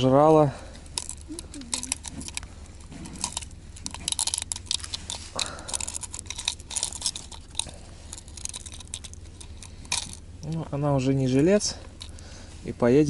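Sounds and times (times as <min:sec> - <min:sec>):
fishing hooks clicking and rattling: 0:00.7 - 0:10.6, 0:11.6 - 0:12.4.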